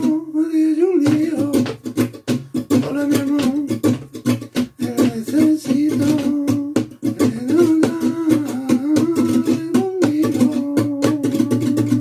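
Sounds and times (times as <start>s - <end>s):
flamenco guitar strummed: 0.0s - 12.0s
man singing: 0.0s - 12.0s.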